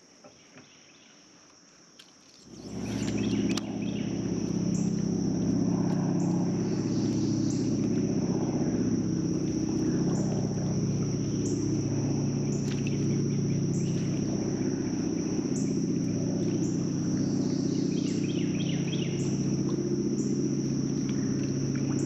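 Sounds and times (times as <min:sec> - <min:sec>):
high-pitched insect drone: 0:02.3 - 0:22.0
motor humming: 0:02.4 - 0:22.0.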